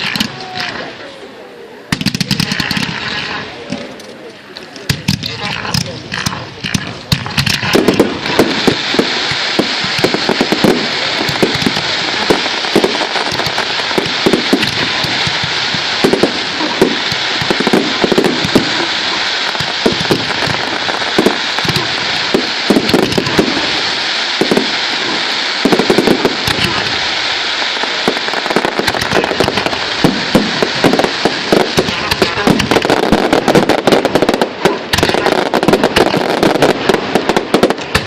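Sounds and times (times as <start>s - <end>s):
fireworks crackling and banging: 0.0s - 38.0s.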